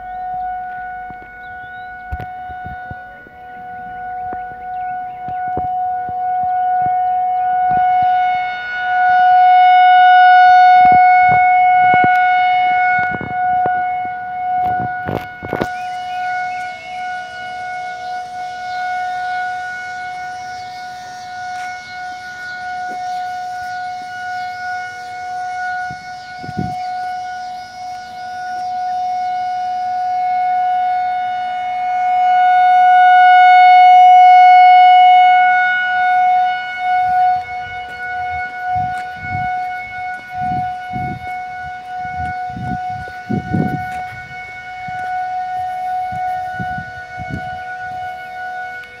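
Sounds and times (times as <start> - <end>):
warning siren steady tone: 0.0 - 49.0.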